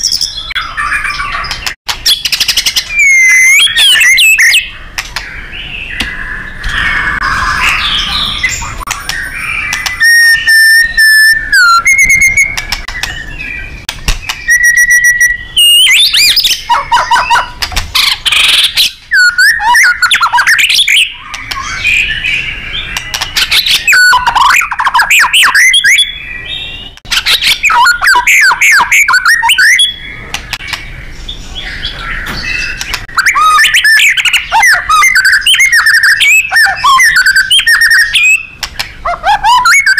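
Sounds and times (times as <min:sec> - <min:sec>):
bird singing whistles and chatters: 0:00.0 - 0:39.9.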